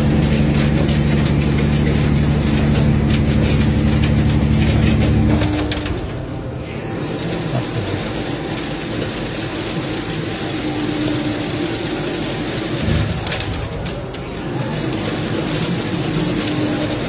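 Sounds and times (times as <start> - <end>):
machine whirring and hissing: 0.0 - 17.0.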